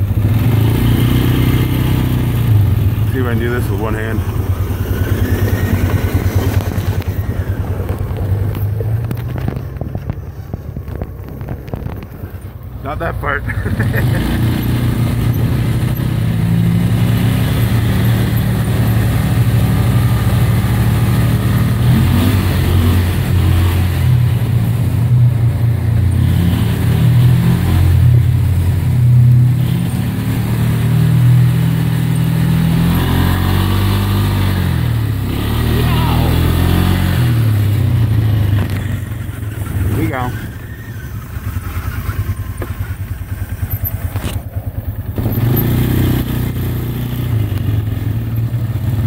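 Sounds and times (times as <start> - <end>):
atv engine revving: 0.0 - 49.0.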